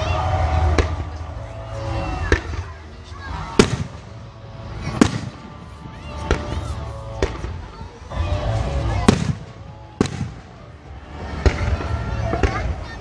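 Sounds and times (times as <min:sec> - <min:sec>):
crowd voices: 0:00.0 - 0:13.0
fireworks bangs with echo: 0:00.3 - 0:05.6, 0:06.2 - 0:07.8, 0:08.4 - 0:13.0.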